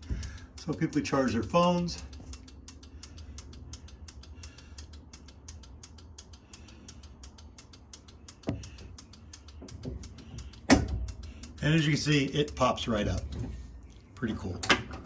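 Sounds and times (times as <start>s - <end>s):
turn-signal relay clicking rapidly: 0.0s - 15.0s.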